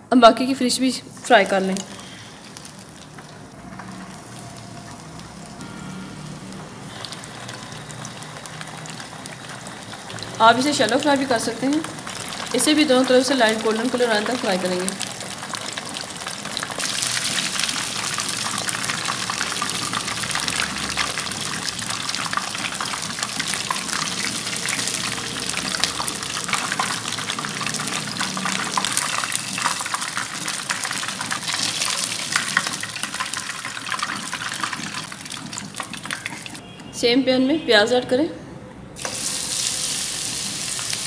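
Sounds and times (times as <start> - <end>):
fish sizzling in oil: 1.2 - 36.6, 39.0 - 41.0.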